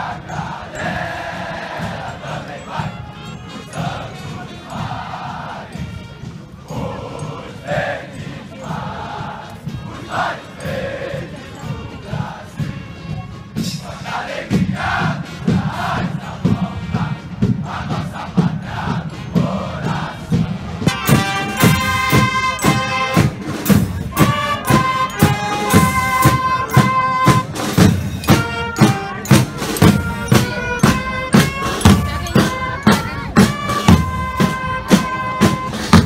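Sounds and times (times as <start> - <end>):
marching drums: 0.0 - 36.0
wind and brass melody: 0.0 - 36.0.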